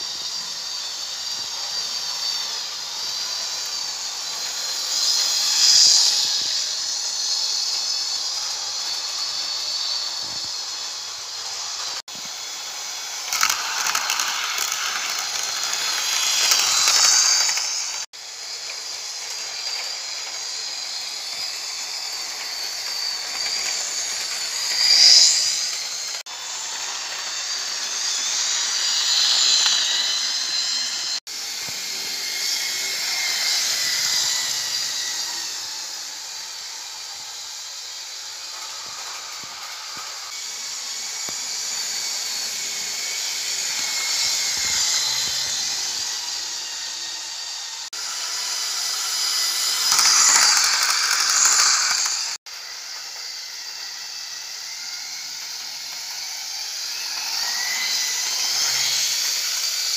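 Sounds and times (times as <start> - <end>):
model train motor whine: 0.0 - 59.9
wheels hissing on rails: 0.0 - 59.9.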